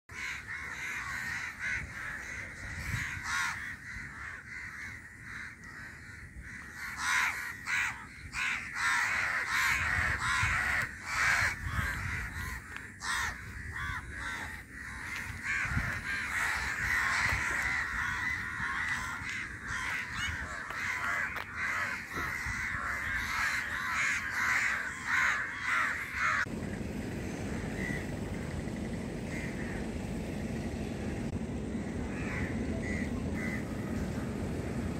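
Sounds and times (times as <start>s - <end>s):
crows cawing: 0.1s - 26.5s, 27.2s - 28.2s, 29.2s - 30.1s, 31.7s - 34.1s
low steady rumble: 0.1s - 34.9s.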